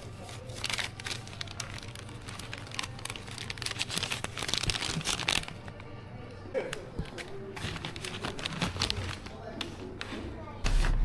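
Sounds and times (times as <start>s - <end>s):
crinkling handling noise: 0.0s - 6.0s, 6.6s - 11.0s.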